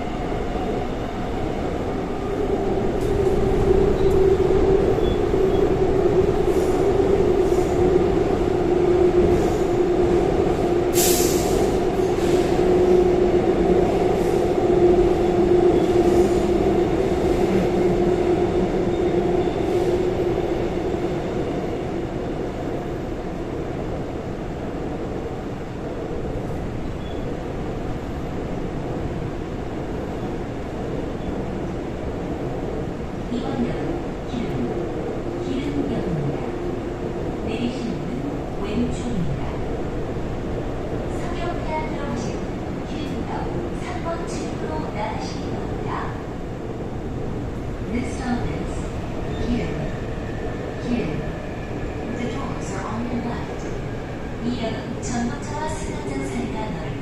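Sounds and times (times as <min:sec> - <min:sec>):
train wheel and track noise: 0:00.0 - 0:57.0.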